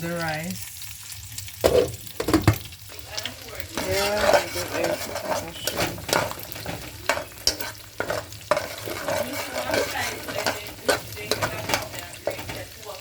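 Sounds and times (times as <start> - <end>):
egg sizzling in a pan: 0.0 - 13.0
utensil scraping a pan: 1.6 - 13.0.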